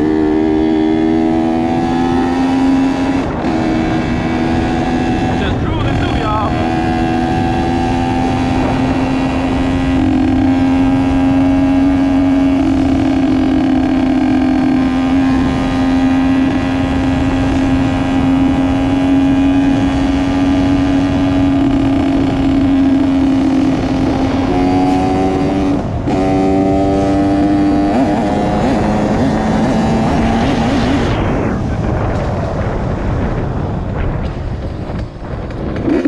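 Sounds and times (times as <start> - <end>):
two-stroke motorcycle engine: 0.0 - 33.6, 34.2 - 36.0.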